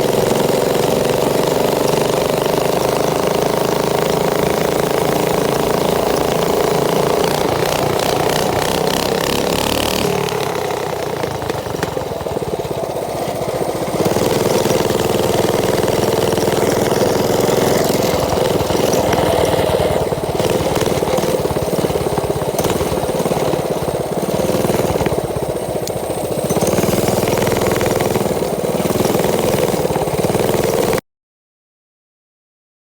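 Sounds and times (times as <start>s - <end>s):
small engine revving: 0.0s - 31.0s.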